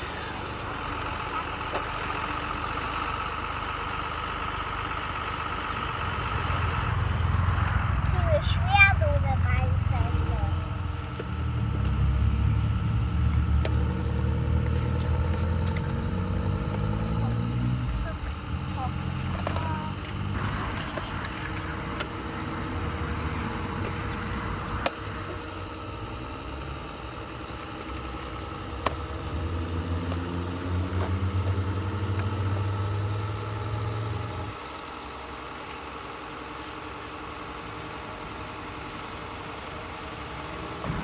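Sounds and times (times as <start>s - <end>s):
tractor engine running: 0.0s - 41.0s.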